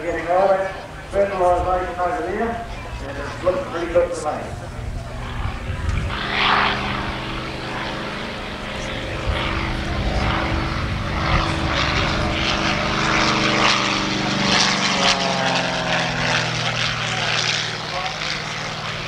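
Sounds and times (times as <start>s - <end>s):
propeller plane engine in flight: 0.0s - 19.0s.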